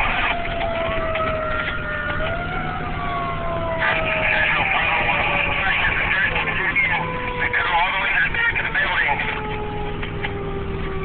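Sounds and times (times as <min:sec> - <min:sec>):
fire engine siren wailing: 0:00.0 - 0:11.0
truck engine rumble: 0:00.0 - 0:11.0.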